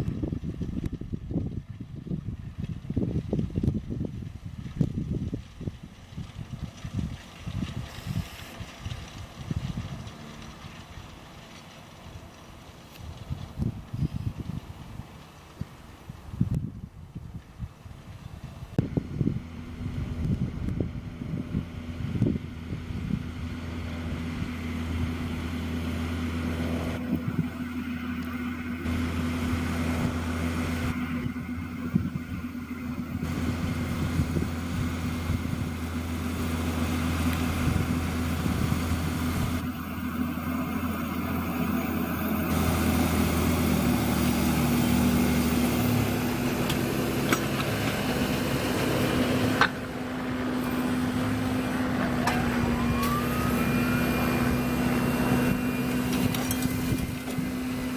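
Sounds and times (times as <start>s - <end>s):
tractor diesel engine running: 0.0s - 16.5s, 17.8s - 57.9s.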